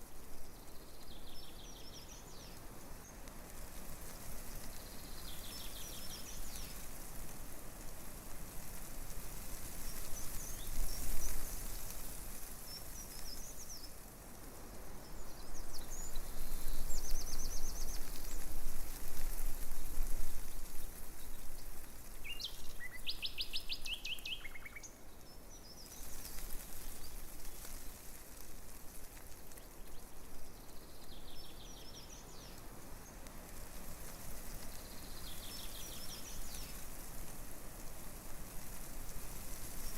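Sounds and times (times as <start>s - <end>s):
leaves rustling in breeze: 0.0s - 39.9s
small birds chirping: 0.3s - 7.3s, 8.5s - 37.4s.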